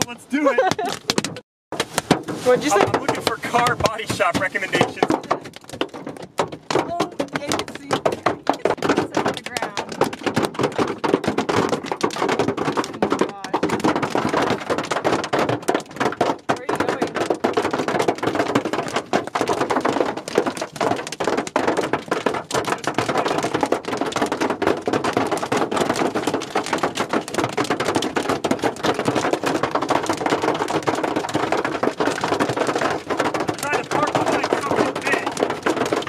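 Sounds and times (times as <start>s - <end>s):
hail and rain on car roof: 0.0s - 36.0s.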